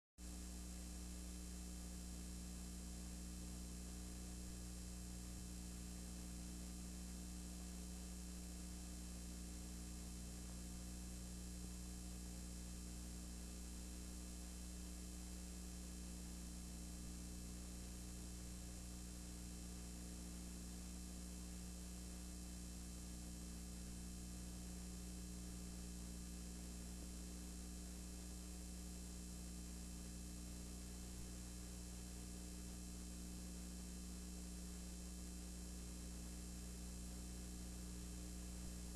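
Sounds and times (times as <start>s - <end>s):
low electrical hum: 0.2s - 38.9s.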